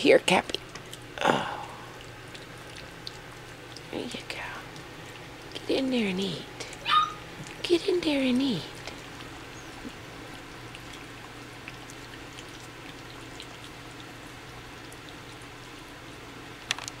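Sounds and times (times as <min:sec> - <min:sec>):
low steady hum: 0:00.0 - 0:17.0
puppies lapping and smacking: 0:00.0 - 0:17.0.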